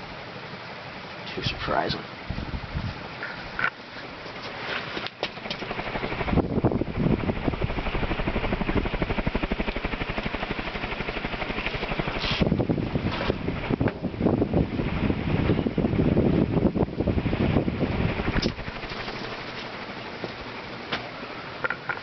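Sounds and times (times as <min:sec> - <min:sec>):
ceiling fan running: 0:00.0 - 0:22.0
air pulsing on microphone: 0:01.5 - 0:21.6.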